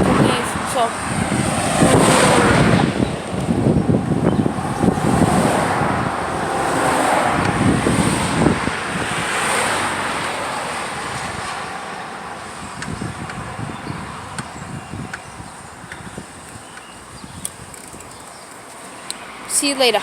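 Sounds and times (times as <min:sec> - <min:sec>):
broad rushing noise: 0:00.0 - 0:20.0
wind buffeting microphone: 0:00.0 - 0:20.0.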